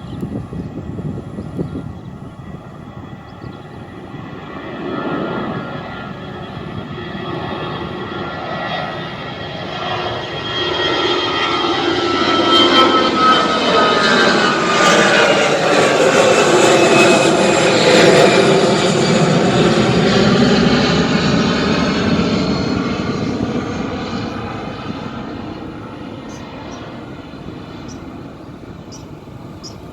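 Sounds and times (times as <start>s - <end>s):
airliner engines roaring: 0.0s - 29.9s
engine whining tones: 0.0s - 29.9s.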